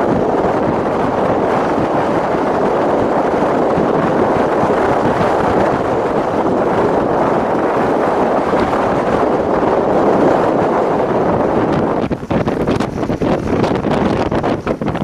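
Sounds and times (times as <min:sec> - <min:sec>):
strong blizzard wind blowing: 0:00.0 - 0:15.0.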